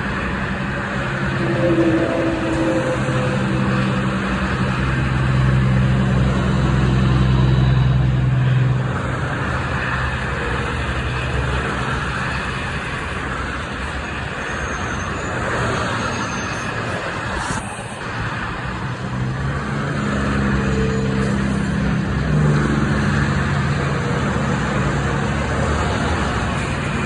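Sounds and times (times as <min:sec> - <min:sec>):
street traffic rushing: 0:00.0 - 0:27.0
vehicle engine humming: 0:00.0 - 0:27.0.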